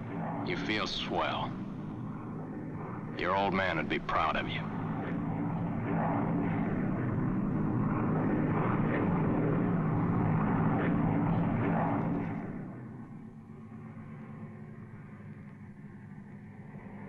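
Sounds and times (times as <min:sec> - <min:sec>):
propeller airplane engines droning: 0:00.0 - 0:17.0.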